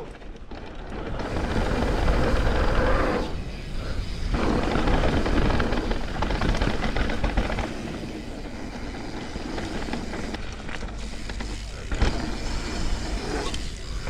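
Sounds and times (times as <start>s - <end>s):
bike rattling over rough trail: 0.0s - 14.0s.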